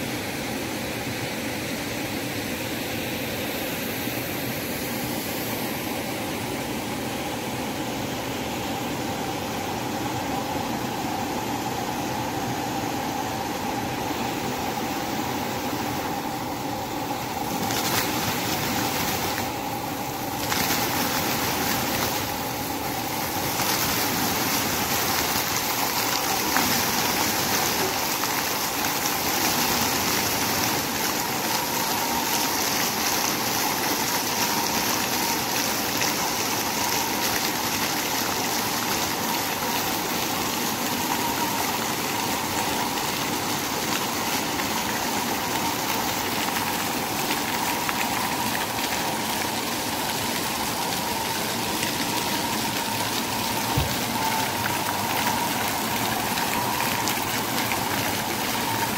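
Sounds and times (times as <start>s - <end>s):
fountain water splashing: 3.4s - 58.9s.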